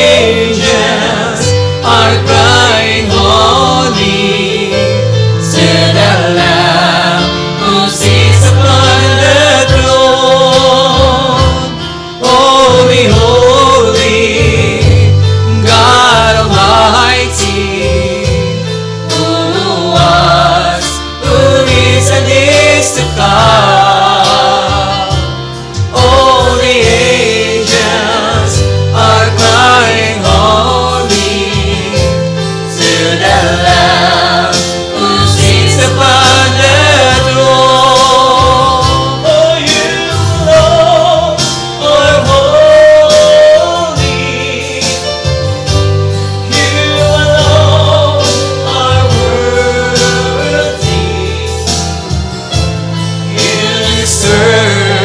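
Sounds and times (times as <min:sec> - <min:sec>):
singers' voices: 0:00.0 - 0:45.5, 0:53.1 - 0:55.0
bass: 0:00.0 - 0:55.0
steady drum beat: 0:00.0 - 0:55.0.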